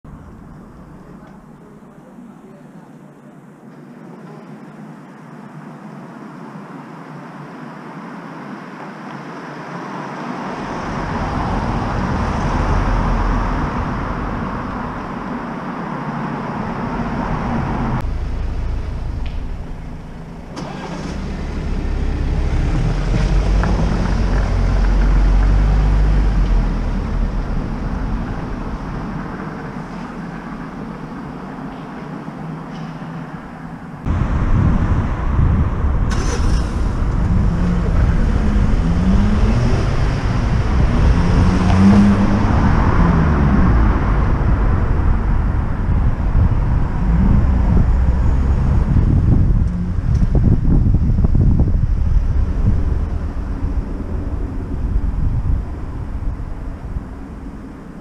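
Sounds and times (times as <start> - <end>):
cars passing: 5.4 - 58.0.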